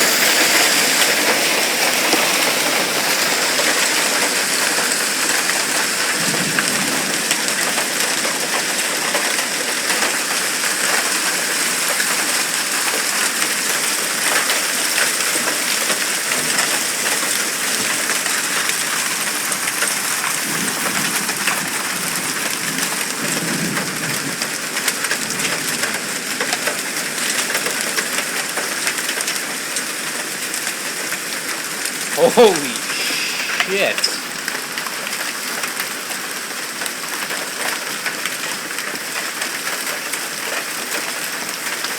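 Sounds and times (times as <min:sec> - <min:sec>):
hail and heavy rain pelting: 0:00.0 - 0:34.3.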